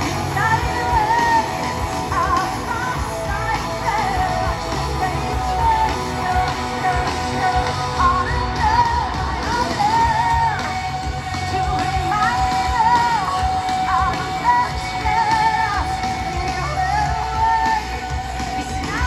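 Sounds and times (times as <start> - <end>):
person singing: 0.0 - 19.0
rock band playing live: 0.0 - 19.0.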